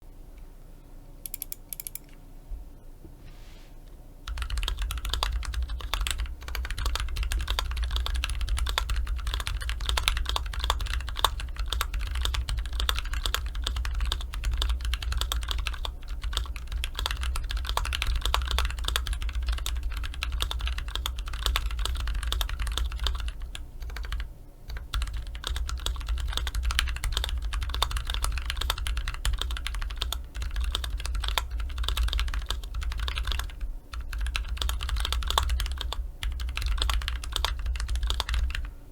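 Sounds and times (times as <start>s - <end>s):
fast mechanical keyboard typing: 4.3s - 38.7s.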